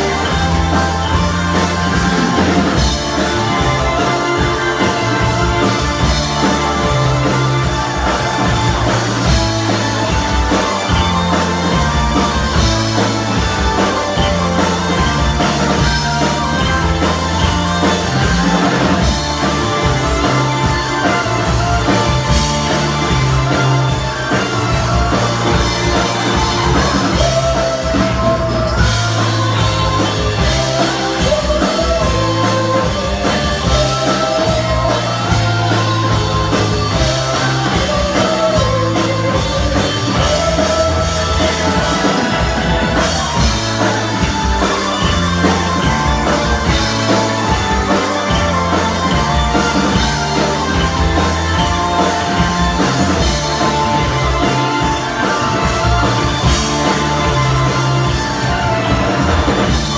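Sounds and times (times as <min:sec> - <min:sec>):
driving bass line: 0:00.0 - 0:59.9
rock band playing: 0:00.0 - 0:59.9.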